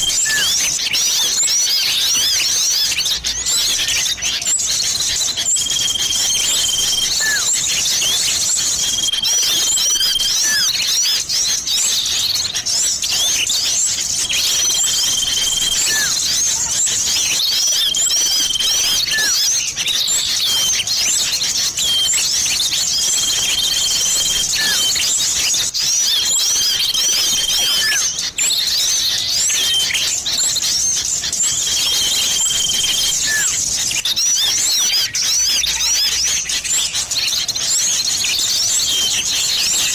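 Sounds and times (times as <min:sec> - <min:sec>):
songbirds chattering and chirping: 0:00.0 - 0:39.9.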